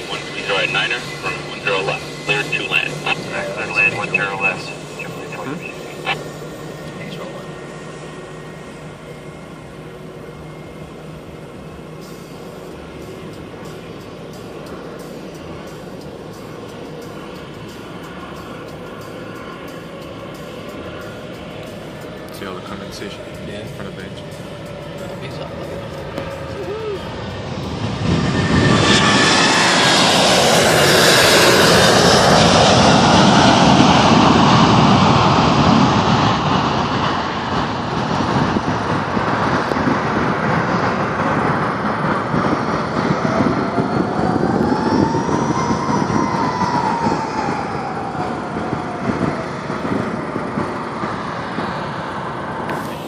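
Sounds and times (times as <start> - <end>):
engine whine: 0.0 - 53.0
jet engines roaring: 0.0 - 53.0.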